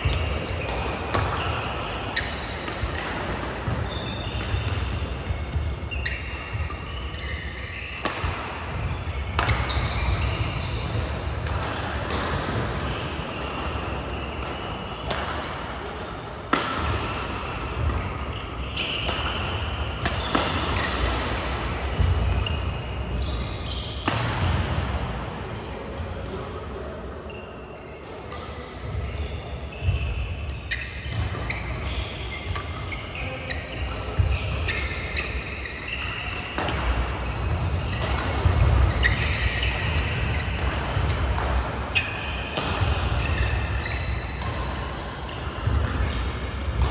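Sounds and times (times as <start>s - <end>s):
rackets striking shuttlecocks: 0.0s - 6.8s, 8.0s - 9.8s, 10.8s - 23.2s, 29.8s - 46.9s
shoes squeaking on court: 0.0s - 12.2s, 16.5s - 24.5s, 28.8s - 46.9s.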